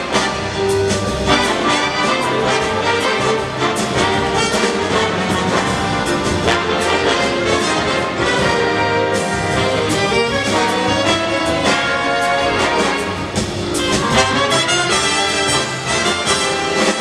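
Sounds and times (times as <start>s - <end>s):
brass section playing chords: 0.0s - 17.0s
drum kit with cymbal hits: 0.0s - 17.0s.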